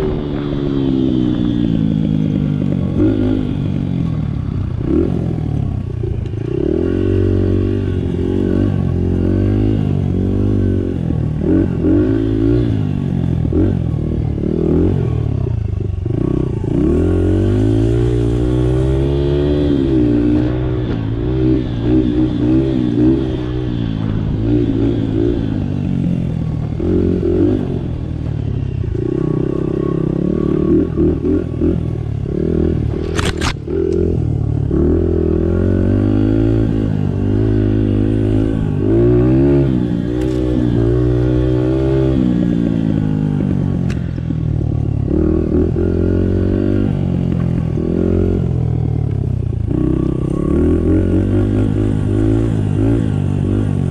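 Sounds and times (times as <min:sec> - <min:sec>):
dirt bike engine revving: 0:00.0 - 0:28.3, 0:28.9 - 0:53.9.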